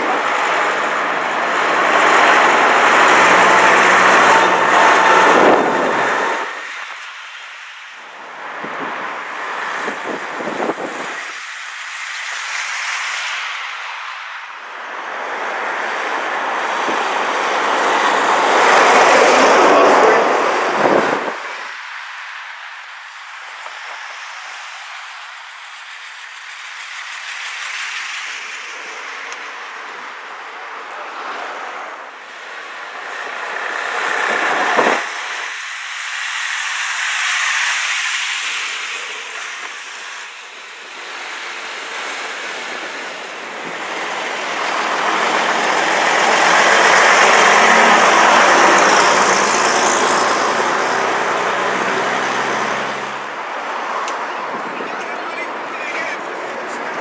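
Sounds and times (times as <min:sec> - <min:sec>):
bus engine passing close: 0:00.0 - 0:11.6, 0:14.6 - 0:22.3, 0:23.5 - 0:57.0
buses driving past: 0:00.0 - 0:57.0.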